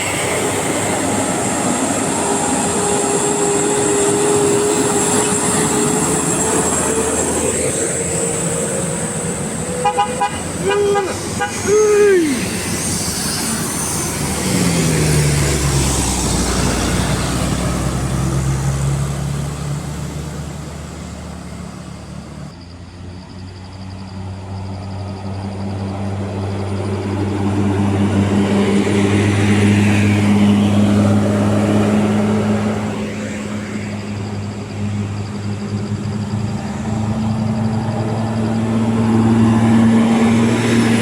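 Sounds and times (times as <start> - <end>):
diesel bus engines driving past: 0.0 - 41.0.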